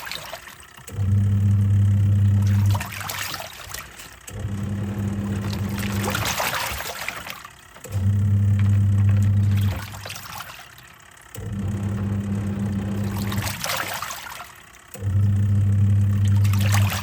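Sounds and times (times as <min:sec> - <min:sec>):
washing machine motor humming: 0:00.0 - 0:17.0
water swishing in tub: 0:00.0 - 0:17.0.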